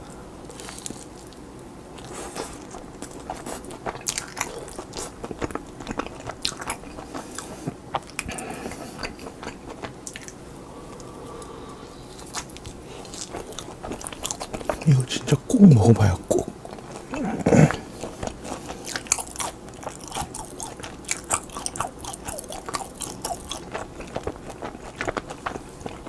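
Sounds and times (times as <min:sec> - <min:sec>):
person chewing food: 0:00.0 - 0:15.1, 0:15.7 - 0:26.0.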